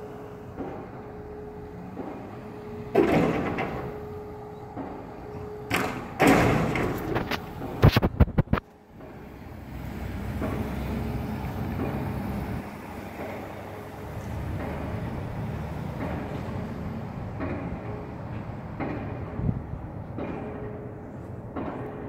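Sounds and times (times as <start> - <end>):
pile driver hammer blows: 0.0 - 9.4, 10.2 - 22.0
low traffic rumble: 0.0 - 22.0.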